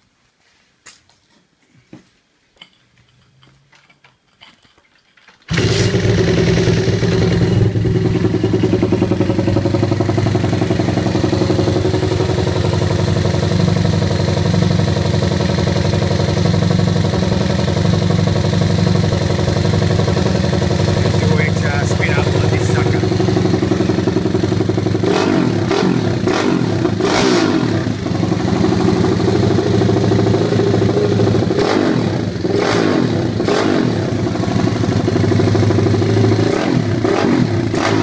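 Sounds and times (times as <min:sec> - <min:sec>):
motorcycle engine running: 0:05.5 - 0:38.0.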